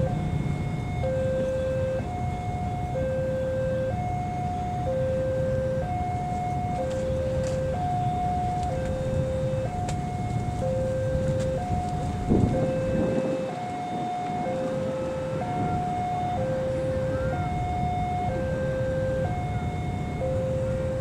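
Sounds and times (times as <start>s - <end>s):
diesel locomotive rumble: 0.0s - 21.0s.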